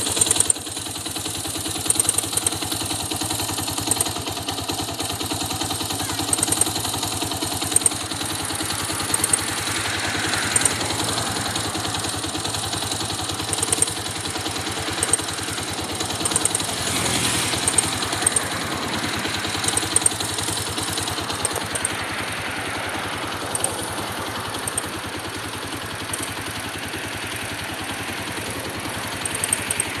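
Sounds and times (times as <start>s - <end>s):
motorcycle engine idling: 0.0s - 30.0s
sharp engine tick: 0.0s - 30.0s.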